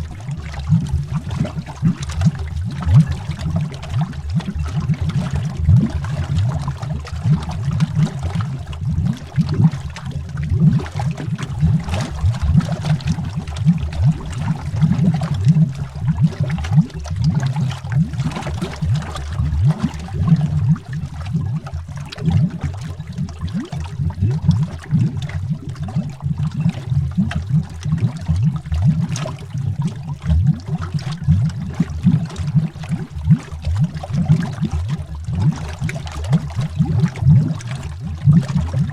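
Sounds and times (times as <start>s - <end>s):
underwater bubbling: 0.0s - 38.9s.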